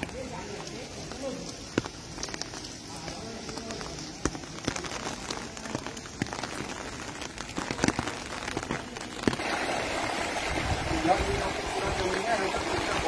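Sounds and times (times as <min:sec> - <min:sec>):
drops striking water: 0:00.0 - 0:13.0
heavy rain hiss: 0:00.0 - 0:13.0.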